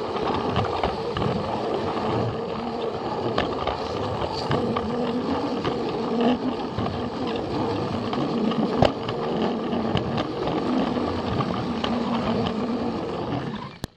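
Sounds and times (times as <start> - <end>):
toy train motor whirring: 0.0 - 13.9.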